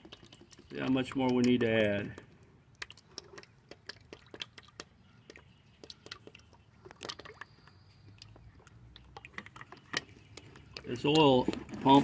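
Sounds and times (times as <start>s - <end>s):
oil glugging from plastic bottle: 0.0s - 12.0s.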